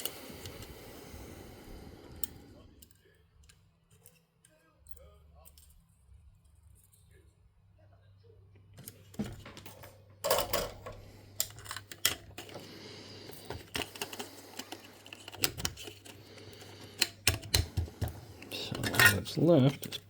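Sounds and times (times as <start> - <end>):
small parts clicking and tapping: 2.2 - 7.4, 8.8 - 20.0.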